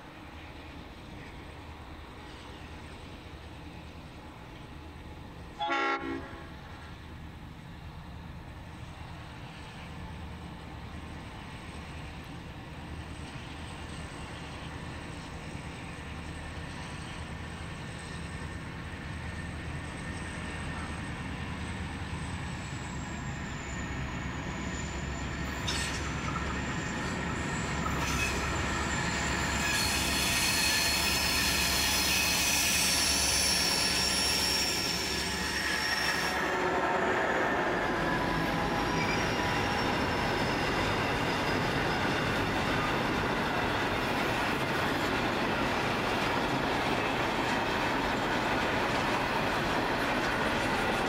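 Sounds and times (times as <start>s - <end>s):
train wheels rolling: 6.6s - 51.0s.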